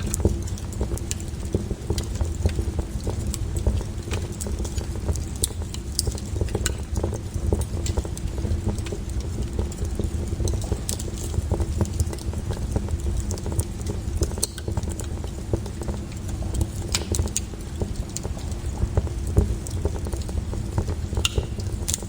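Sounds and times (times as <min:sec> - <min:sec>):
burning wood crackling and popping: 0:00.0 - 0:22.0
low rumble of flames: 0:00.0 - 0:22.0.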